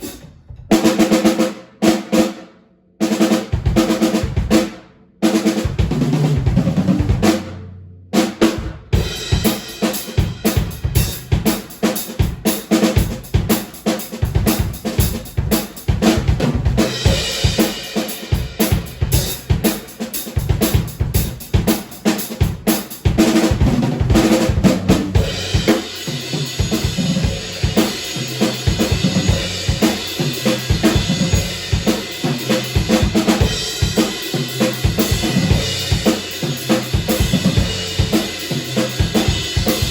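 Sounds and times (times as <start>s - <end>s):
drum kit groove: 0.0s - 2.4s, 3.0s - 7.6s, 8.2s - 39.9s.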